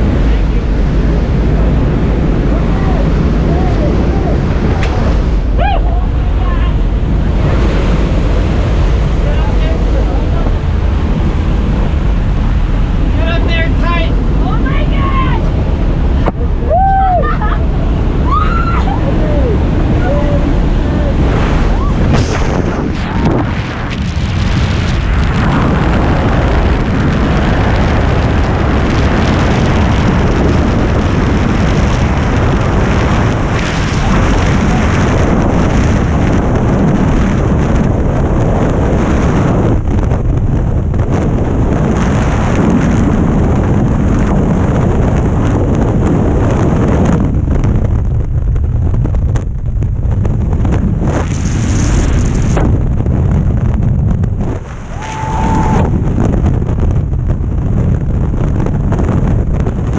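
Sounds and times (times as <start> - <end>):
freefall wind roar on microphone: 0.0 - 59.9.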